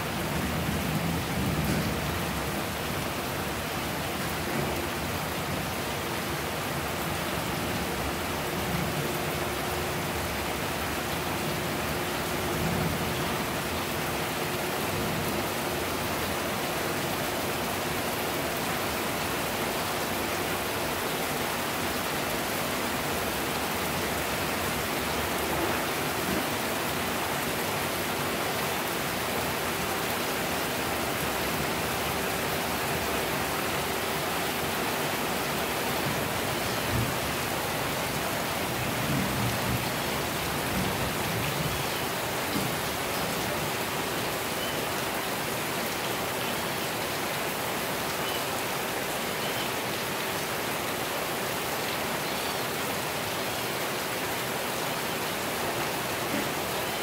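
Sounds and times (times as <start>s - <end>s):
heavy rain on rooftop: 0.0s - 57.0s.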